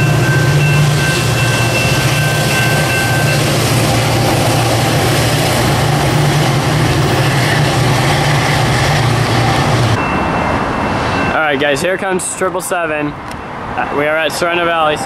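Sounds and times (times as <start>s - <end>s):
diesel locomotive engine drone: 0.0s - 15.0s
train rumbling on rails: 0.0s - 15.0s.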